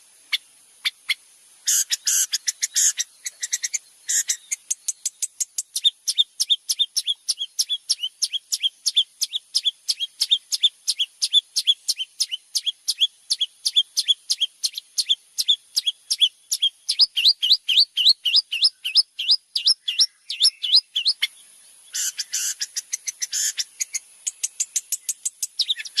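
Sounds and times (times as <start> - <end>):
high-pitched hiss: 0.0 - 26.0
songbird chip notes: 0.3 - 26.0.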